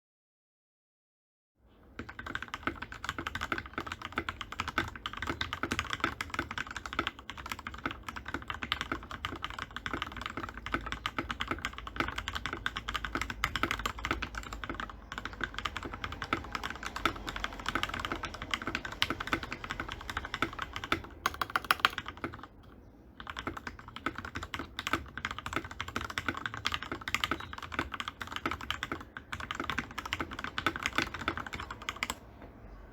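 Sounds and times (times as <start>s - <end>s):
fast mechanical keyboard typing: 2.0s - 32.2s.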